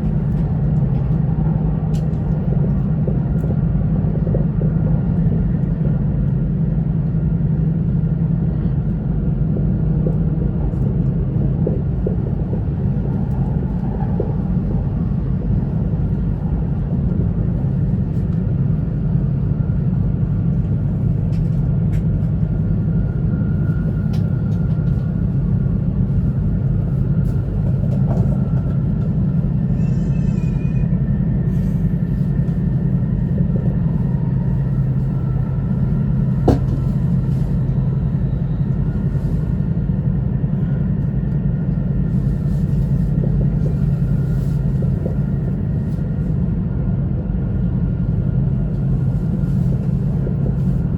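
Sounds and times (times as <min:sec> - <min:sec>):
train cabin rumble: 0:00.0 - 0:50.9.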